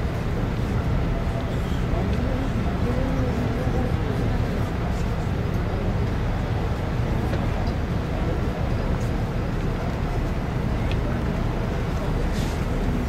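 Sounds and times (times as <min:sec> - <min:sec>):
faint voices: 0:00.0 - 0:13.0
low engine rumble: 0:00.0 - 0:13.0.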